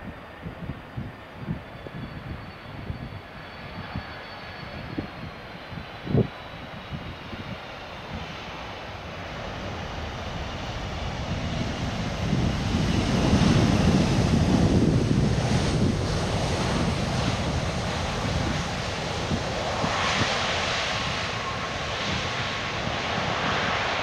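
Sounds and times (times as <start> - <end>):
jet engines roaring: 0.0 - 24.0
wind buffeting microphone: 0.0 - 24.0.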